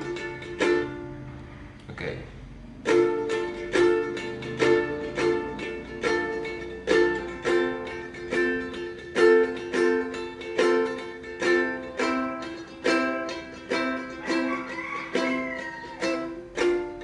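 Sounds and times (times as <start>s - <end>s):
ukulele strumming: 0.0s - 1.7s, 2.5s - 17.0s.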